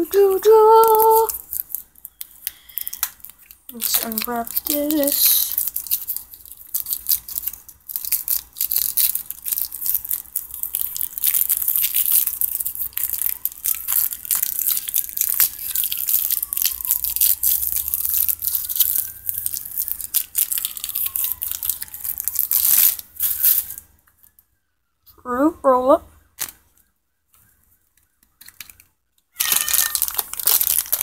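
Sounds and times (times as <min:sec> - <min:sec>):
plastic wrapper crinkling: 0:00.0 - 0:24.5, 0:26.2 - 0:31.0.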